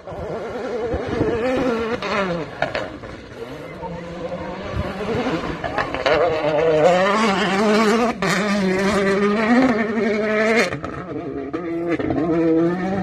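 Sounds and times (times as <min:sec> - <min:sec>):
distant rally car engine revving: 0:00.0 - 0:13.0.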